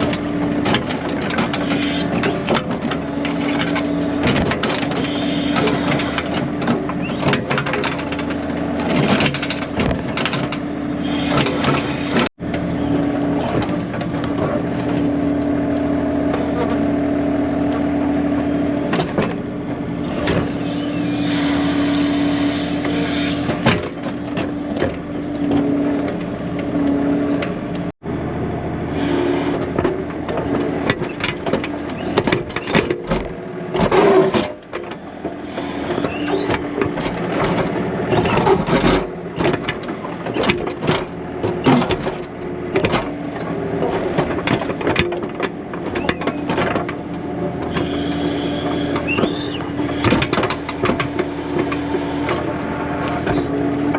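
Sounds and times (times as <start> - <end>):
backhoe clanks and knocks: 0.0 - 16.9, 17.6 - 27.9, 29.2 - 53.9
tractor diesel engine running: 0.0 - 53.9.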